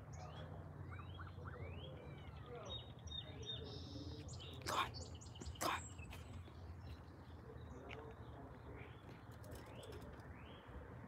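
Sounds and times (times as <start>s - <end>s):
distant birds chirping: 0.2s - 10.8s.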